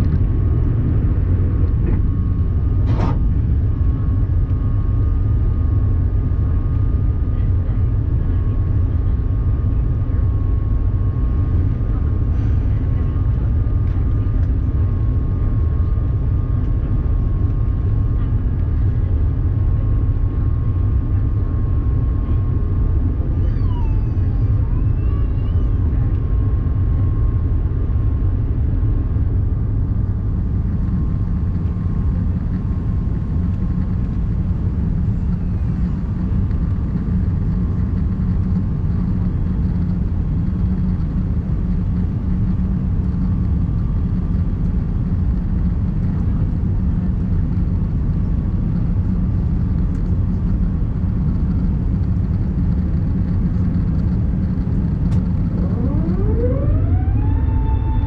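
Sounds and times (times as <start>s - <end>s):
deep hum: 0.0s - 45.6s, 49.0s - 58.0s
airplane cabin engine rumble: 0.0s - 58.0s
faint steady whine: 0.0s - 58.0s.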